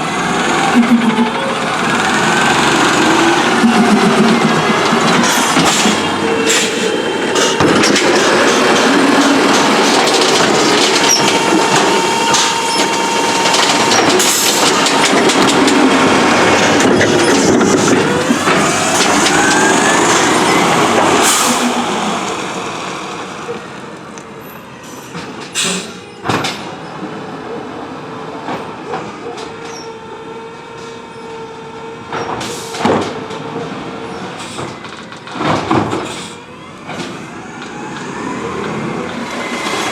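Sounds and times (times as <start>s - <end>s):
hydraulics whining: 0.0s - 26.8s, 29.0s - 39.9s
garbage truck engine: 0.0s - 39.9s.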